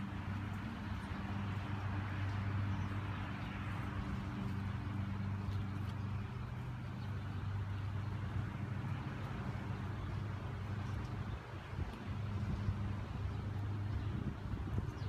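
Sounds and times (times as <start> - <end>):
motor engine running steadily: 0.0 - 15.0.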